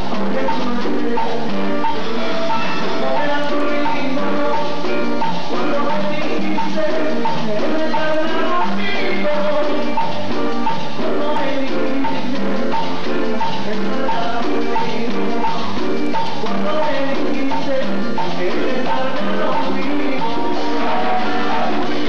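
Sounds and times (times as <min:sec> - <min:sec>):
latin dance music over speakers: 0:00.0 - 0:22.0.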